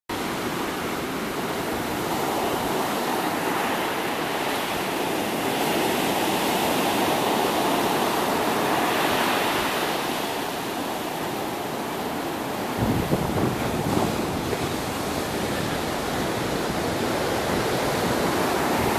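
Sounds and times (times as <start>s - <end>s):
waves breaking on a beach: 0.1s - 18.9s.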